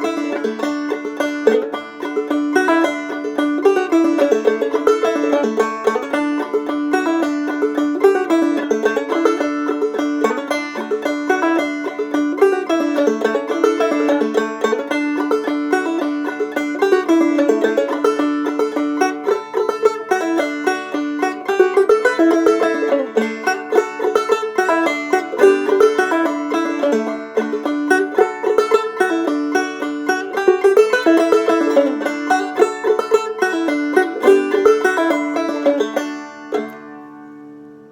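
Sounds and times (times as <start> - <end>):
banjo plucked clawhammer style: 0.0 - 37.9.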